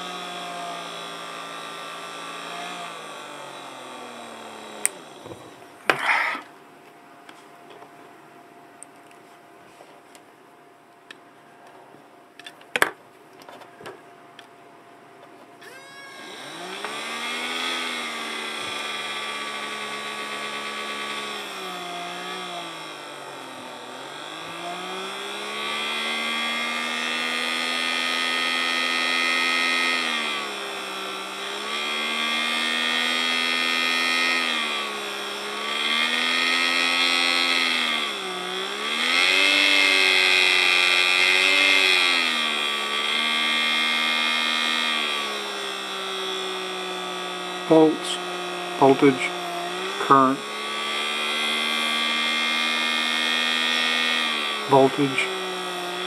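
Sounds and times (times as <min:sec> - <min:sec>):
small electric motor whining: 0:00.0 - 0:06.5, 0:15.6 - 0:56.0.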